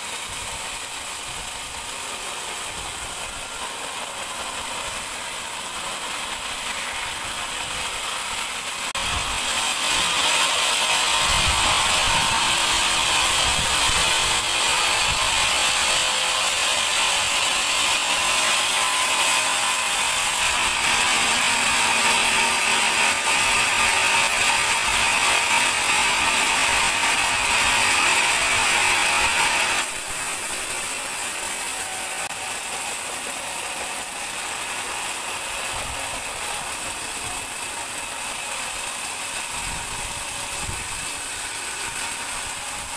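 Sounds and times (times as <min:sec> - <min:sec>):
band saw cutting log: 0:00.0 - 0:42.9.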